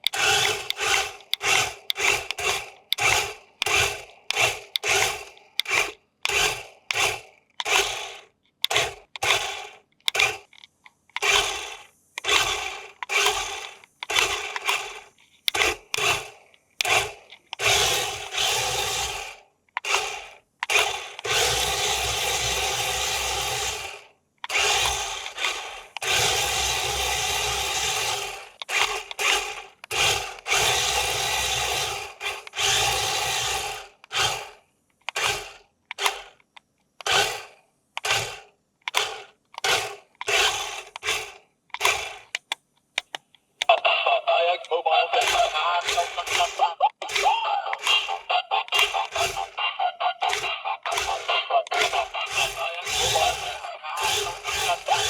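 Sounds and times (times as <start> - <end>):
small electric motor whirring: 0.0 - 43.1, 45.2 - 55.0.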